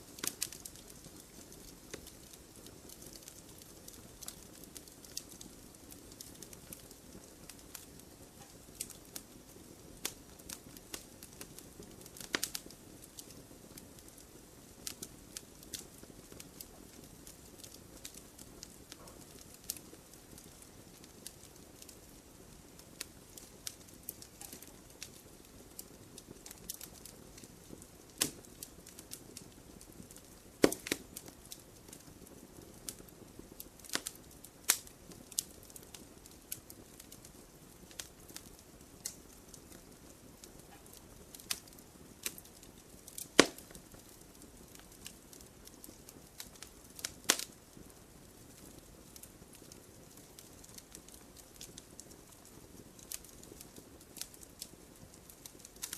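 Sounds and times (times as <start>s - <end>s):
campfire crackling and popping: 0.0s - 55.9s
low steady hiss: 0.0s - 55.9s.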